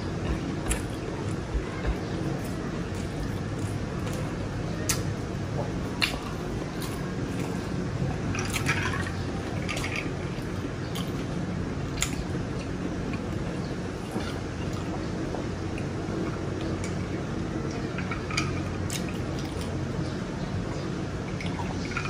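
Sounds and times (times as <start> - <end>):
chewing food: 0.0 - 20.2
low room hum: 0.0 - 22.0.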